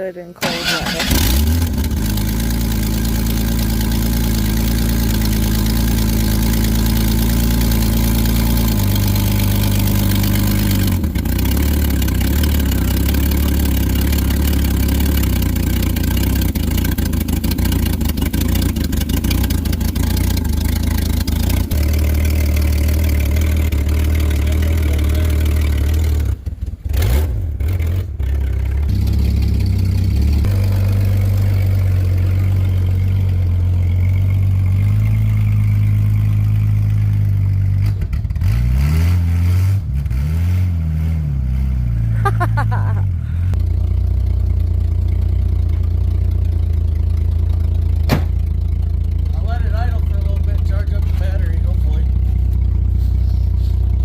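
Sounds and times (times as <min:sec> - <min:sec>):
truck engine idling: 0:00.0 - 0:26.9, 0:27.6 - 0:37.8, 0:42.1 - 0:54.0.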